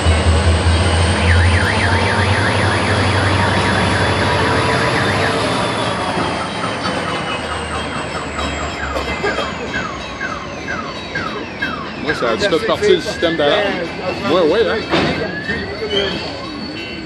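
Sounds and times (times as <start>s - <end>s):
car alarm warbling: 0.0s - 17.0s
freight train rumbling: 0.0s - 17.0s.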